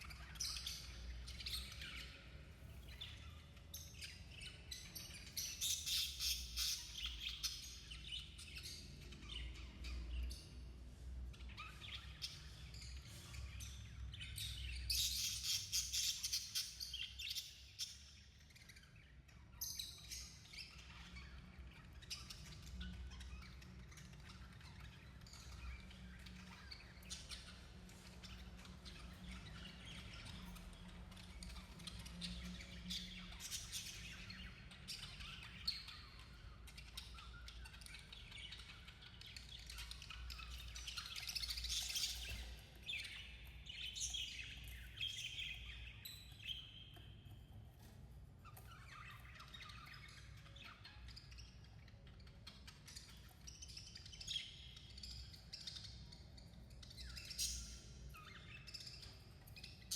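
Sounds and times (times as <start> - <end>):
budgerigars chirping: 0.0 - 59.9.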